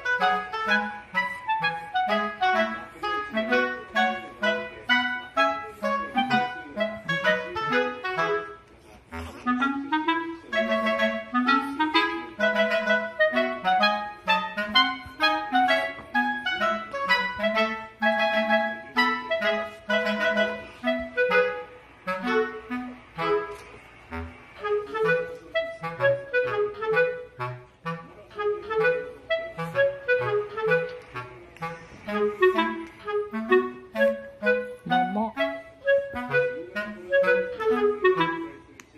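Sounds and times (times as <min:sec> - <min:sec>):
bouncy woodwind tune with bass: 0:00.0 - 0:38.8.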